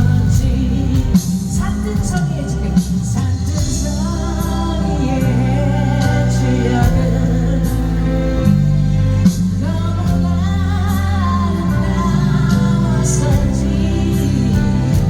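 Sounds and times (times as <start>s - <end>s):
person singing pop ballad: 0.0s - 15.0s
sustained bass notes: 0.0s - 15.0s.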